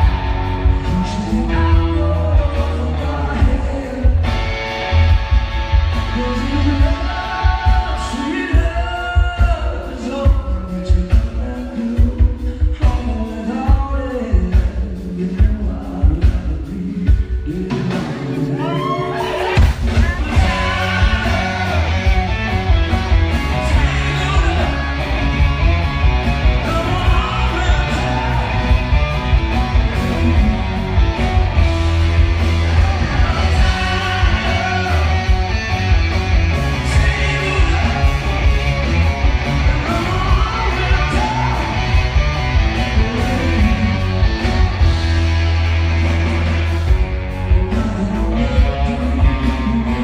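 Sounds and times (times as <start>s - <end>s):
person singing: 0.0s - 4.8s, 5.9s - 45.0s, 47.5s - 50.0s
live rock band playing: 0.0s - 50.0s.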